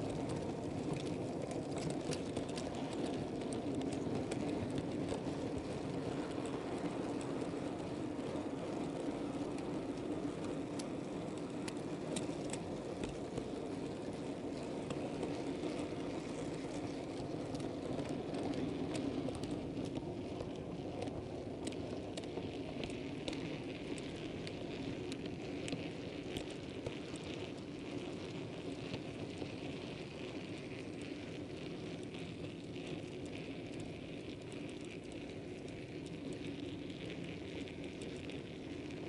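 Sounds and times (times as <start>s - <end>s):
small metal wheels rumbling on rail: 0.0s - 39.0s.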